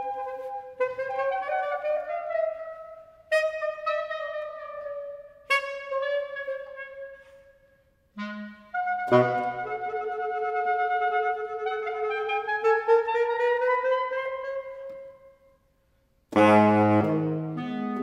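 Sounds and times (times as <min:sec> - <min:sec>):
clarinet and saxophone duo: 0:00.0 - 0:15.5, 0:16.3 - 0:18.0.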